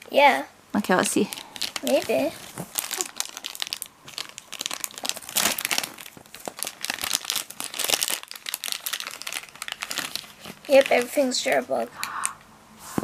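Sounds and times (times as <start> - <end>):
plastic packet crinkling: 1.2 - 11.8.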